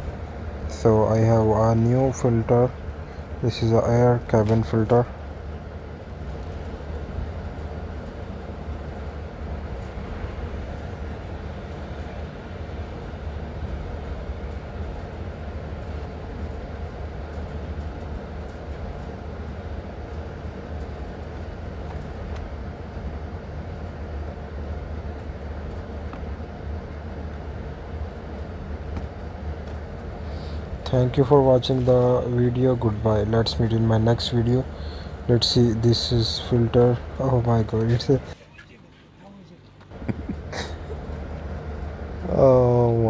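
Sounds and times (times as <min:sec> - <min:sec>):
low mechanical rumble: 0:00.0 - 0:43.0.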